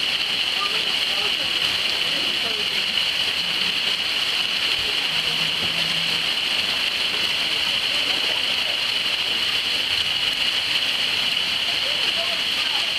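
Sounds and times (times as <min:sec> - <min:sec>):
rain on water and paving: 0:00.0 - 0:12.9.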